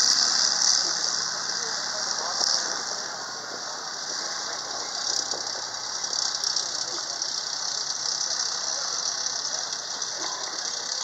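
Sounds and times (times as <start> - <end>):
steady high hiss: 0.0 - 11.0
tracked vehicle engine hum: 0.0 - 11.0.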